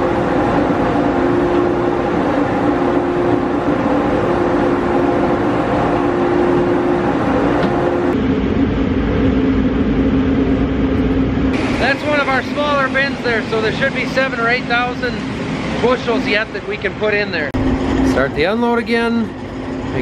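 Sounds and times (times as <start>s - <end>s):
grain-drying machinery drone: 0.0s - 20.0s.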